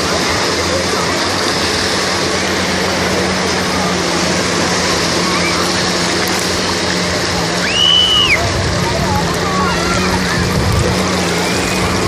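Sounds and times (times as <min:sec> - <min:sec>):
sea surf washing on beach: 0:00.0 - 0:12.0.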